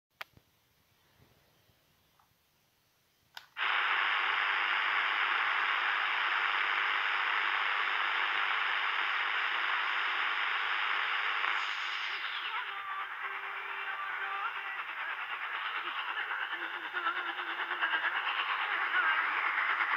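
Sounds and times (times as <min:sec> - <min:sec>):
shortwave static hiss: 0:02.1 - 0:19.9.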